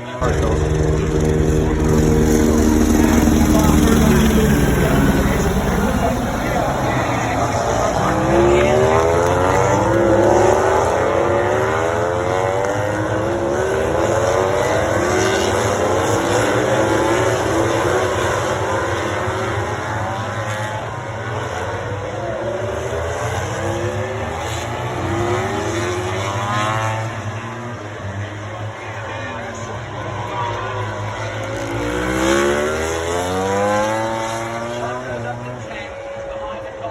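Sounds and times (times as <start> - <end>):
racing motorcycles accelerating past: 0.0 - 36.9.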